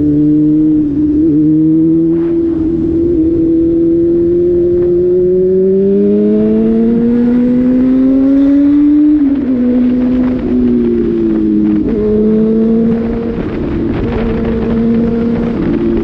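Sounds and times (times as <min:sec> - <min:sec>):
engines revving high: 0:00.0 - 0:16.0.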